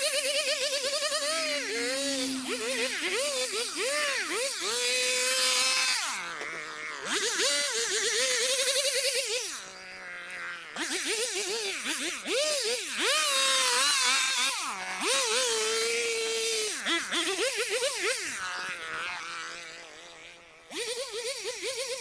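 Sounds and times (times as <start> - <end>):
hedge trimmer engine revving: 0.0 - 22.0.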